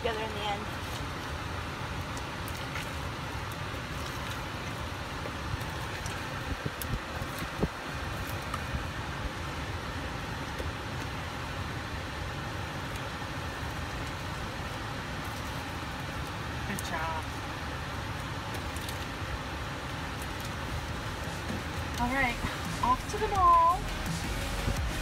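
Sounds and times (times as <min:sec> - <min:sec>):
car cabin hum and hiss: 0:00.0 - 0:03.8, 0:04.5 - 0:25.0.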